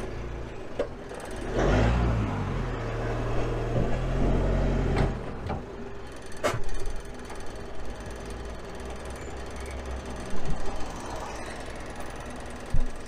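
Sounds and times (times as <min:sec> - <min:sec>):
truck engine pulling: 0:00.0 - 0:13.0.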